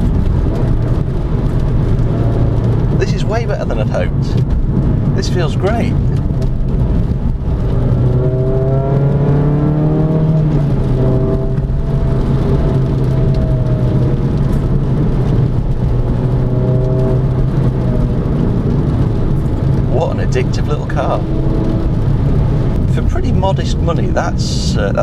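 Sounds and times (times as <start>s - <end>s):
car engine accelerating: 0.0s - 25.0s
tyre and road noise: 0.0s - 25.0s.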